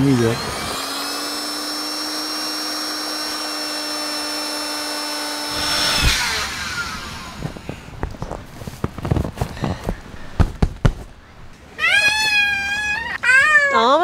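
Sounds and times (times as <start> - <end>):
electric air pump whining: 0.0 - 13.2.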